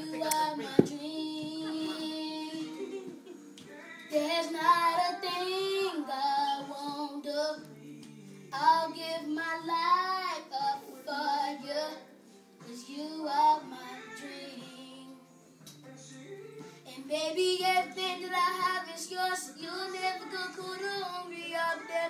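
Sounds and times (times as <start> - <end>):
boy singing: 0.0 - 15.2, 16.0 - 22.0.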